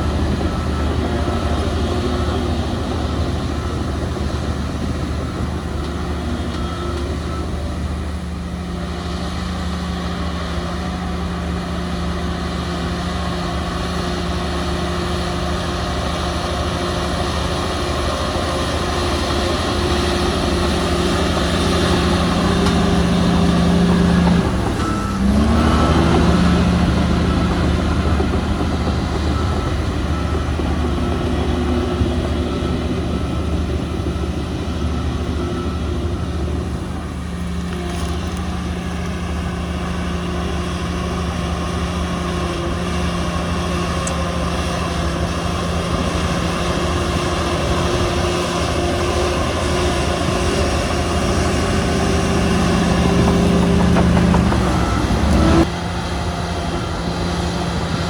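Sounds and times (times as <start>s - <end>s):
faint reversing alarm beeping: 0.0s - 55.7s
heavy diesel machinery running: 0.0s - 58.0s.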